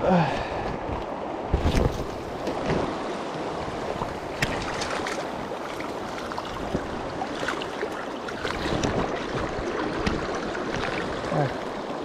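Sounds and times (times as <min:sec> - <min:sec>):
river water rushing: 0:00.0 - 0:12.0
sharp water splashes: 0:01.6 - 0:11.4.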